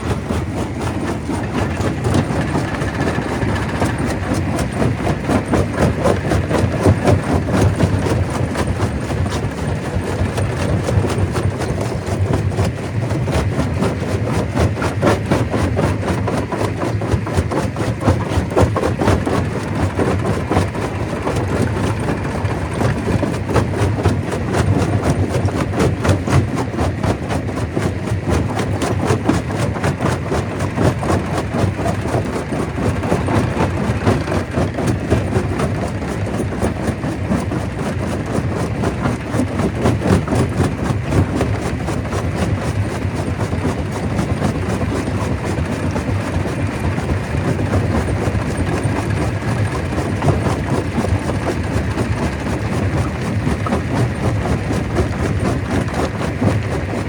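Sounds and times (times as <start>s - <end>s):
stone crusher droning: 0.0s - 57.0s.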